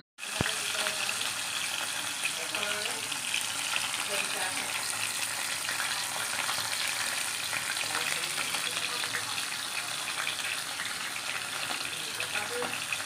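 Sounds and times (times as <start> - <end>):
food sizzling in hot oil: 0.2 - 13.0.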